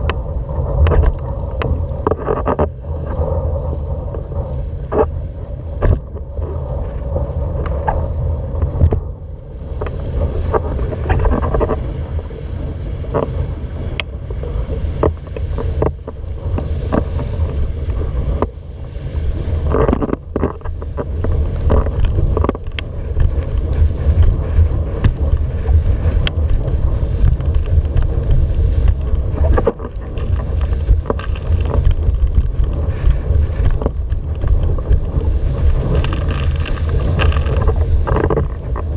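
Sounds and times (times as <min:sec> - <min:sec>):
board hissing and slapping water: 0:00.0 - 0:38.9
wind noise on microphone: 0:00.0 - 0:38.9.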